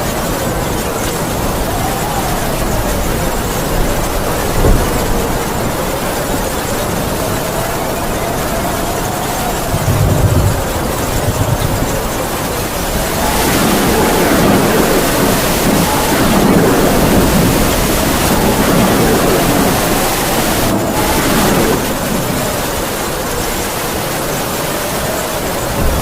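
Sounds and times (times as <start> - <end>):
heavy rain falling: 0.0 - 26.0
howling wind whistling: 0.0 - 26.0.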